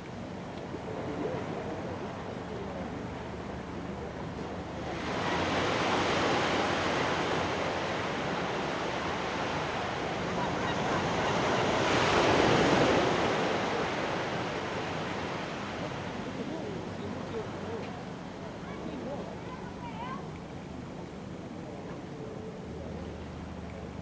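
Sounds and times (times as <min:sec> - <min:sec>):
small waves breaking on shore: 0:00.7 - 0:20.9.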